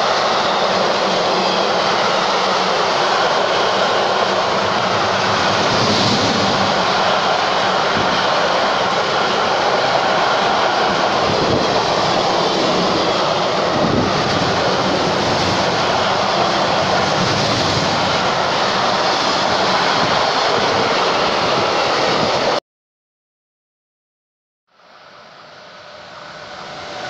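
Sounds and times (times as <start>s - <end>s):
steel wheels rolling on rails: 0.0s - 22.5s
freight train passing: 0.0s - 22.6s, 24.8s - 27.0s.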